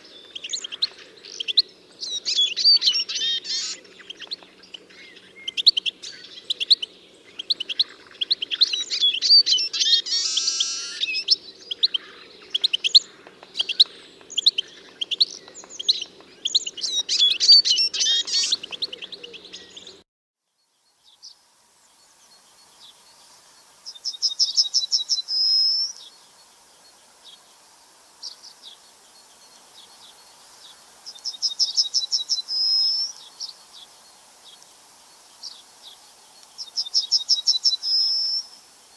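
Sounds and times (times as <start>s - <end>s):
bird singing a fast trill: 0.0s - 4.2s, 5.0s - 23.2s, 23.8s - 27.4s, 28.2s - 33.6s, 36.6s - 38.6s
songbirds chirping: 0.0s - 38.9s.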